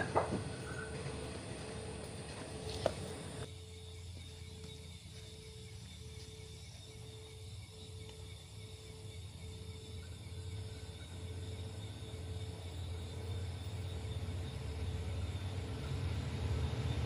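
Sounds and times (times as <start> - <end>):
diesel locomotive rumble: 0.0 - 6.2, 9.3 - 17.0.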